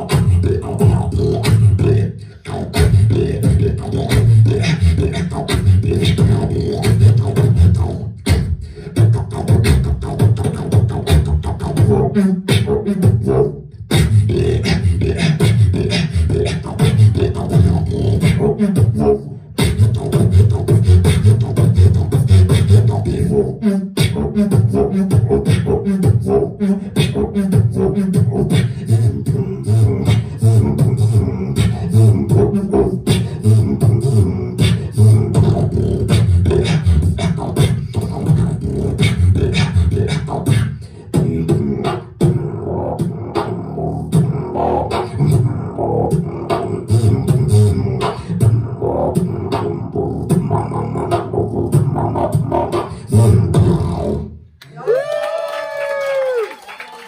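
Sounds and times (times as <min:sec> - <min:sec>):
beatboxing into a microphone: 0:00.0 - 0:55.2.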